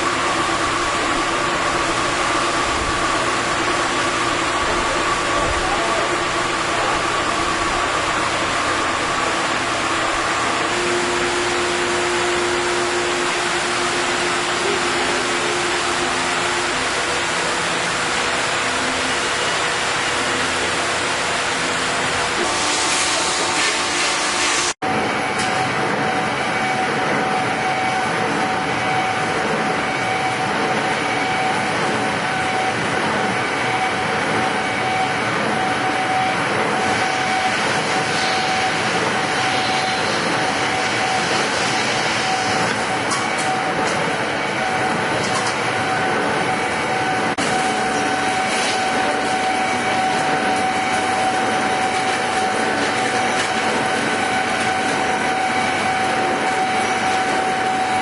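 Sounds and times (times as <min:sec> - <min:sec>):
high machine whine: 0:00.0 - 0:58.0
lathe running: 0:00.0 - 0:58.0.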